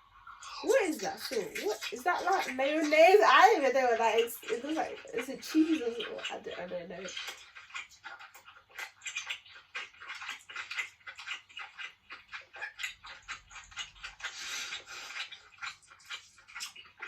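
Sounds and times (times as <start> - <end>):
wet chewing sounds: 0.0 - 17.0.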